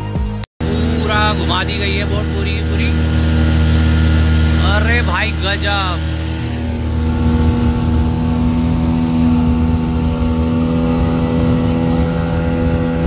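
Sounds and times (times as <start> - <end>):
speedboat engine at full throttle: 0.6 - 13.0
wind and water rushing: 0.6 - 13.0.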